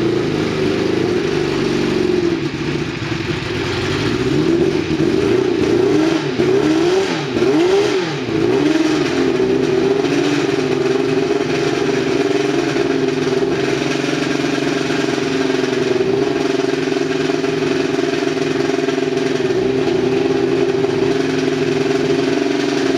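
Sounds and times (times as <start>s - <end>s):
racing engine revving: 0.0s - 22.9s.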